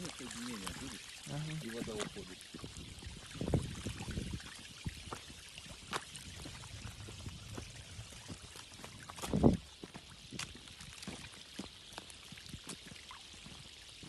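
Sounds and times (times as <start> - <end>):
small fish flapping and splashing: 0.0 - 14.0.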